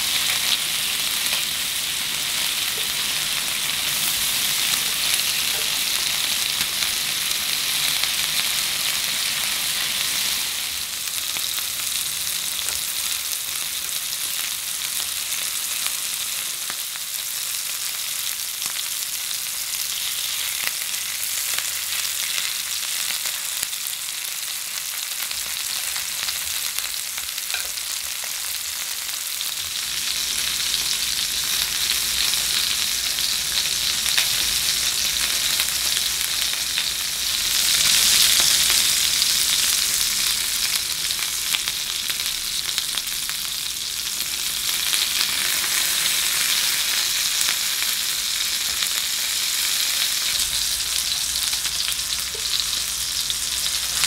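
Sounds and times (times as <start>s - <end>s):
meat and potatoes sizzling in a pan: 0.0s - 54.0s.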